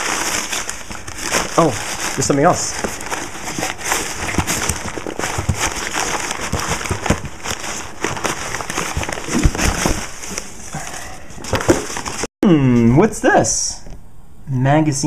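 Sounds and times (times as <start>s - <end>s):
paper and plastic crinkling: 0.0s - 12.3s.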